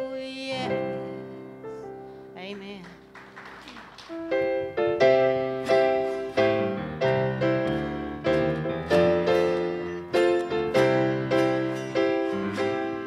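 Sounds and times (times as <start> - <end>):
piano playing slow chords: 0.0 - 2.4, 4.1 - 13.0.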